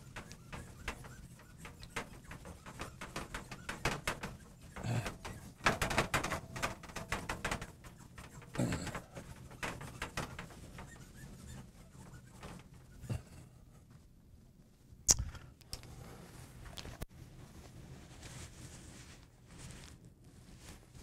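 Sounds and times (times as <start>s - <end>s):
cloth rubbing on glass: 0.0s - 14.1s, 17.3s - 21.0s.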